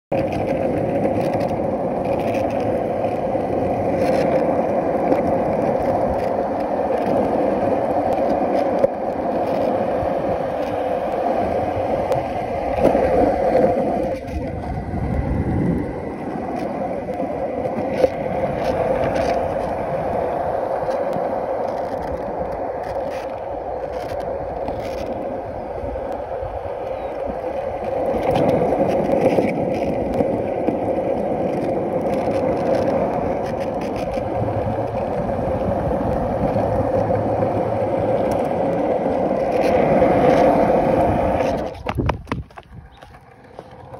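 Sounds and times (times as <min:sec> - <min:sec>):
skateboard wheels rolling on pavement: 0:00.1 - 0:43.9.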